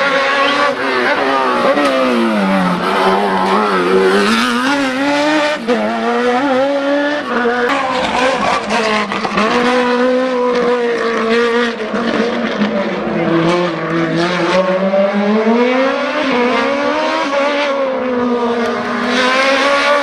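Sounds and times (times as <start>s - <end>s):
race car engine shifting gears: 0.0s - 20.0s.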